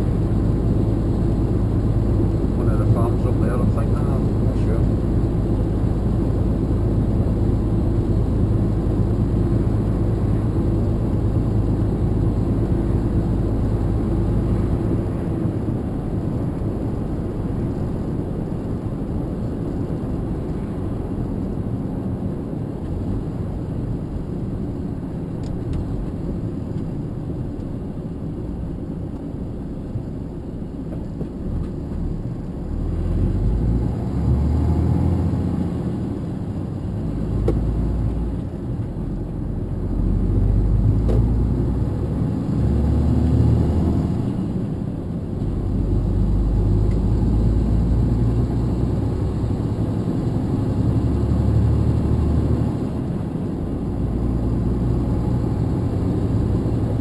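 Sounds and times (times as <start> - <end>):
truck engine and road drone: 0.0 - 57.0.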